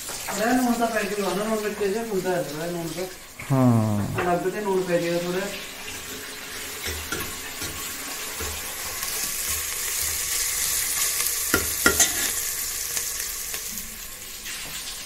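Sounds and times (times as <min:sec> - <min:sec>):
onions sizzling in a pot: 0:00.0 - 0:03.2, 0:04.9 - 0:15.0.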